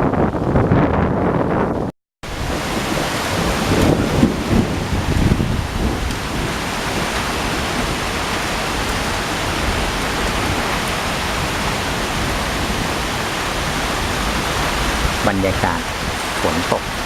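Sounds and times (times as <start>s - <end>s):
heavy rain pouring: 2.2s - 17.0s.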